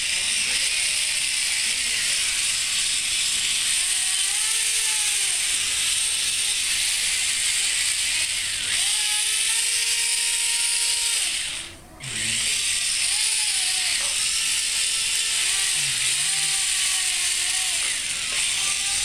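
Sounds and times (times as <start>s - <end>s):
motor whine: 0.0s - 19.0s
toy robot motors whirring: 0.0s - 19.0s.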